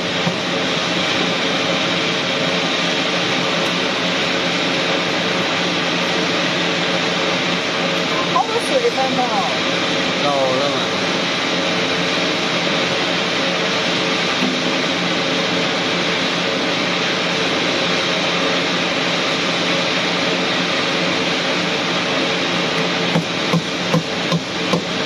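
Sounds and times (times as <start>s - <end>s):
machine droning: 0.0s - 25.0s.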